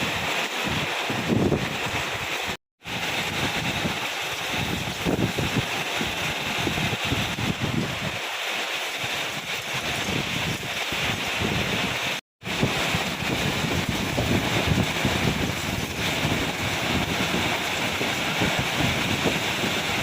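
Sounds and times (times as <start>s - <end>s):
heavy rain falling: 0.0s - 20.0s
wind gusting against microphone: 0.0s - 20.0s.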